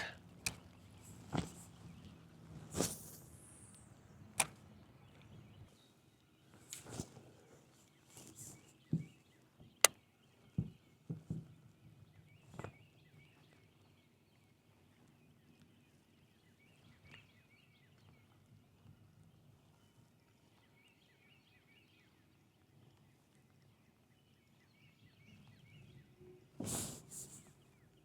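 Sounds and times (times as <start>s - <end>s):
distant birdsong chirping: 0.0s - 28.0s.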